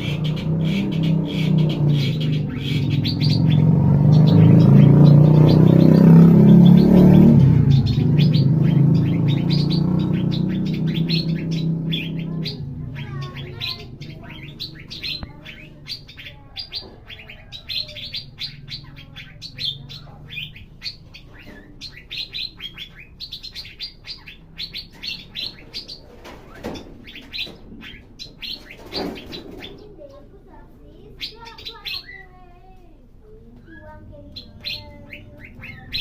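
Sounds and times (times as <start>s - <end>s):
bird chirping: 0.0s - 36.0s.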